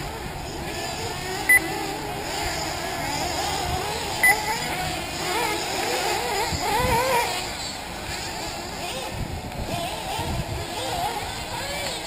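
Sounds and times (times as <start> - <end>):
rc car engines buzzing: 0.0 - 12.0.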